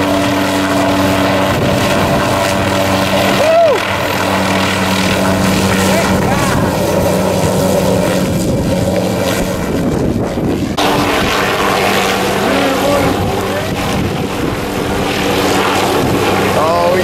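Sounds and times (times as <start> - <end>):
helicopter engine and rotor: 0.0 - 17.0
wind buffeting microphone: 0.0 - 17.0.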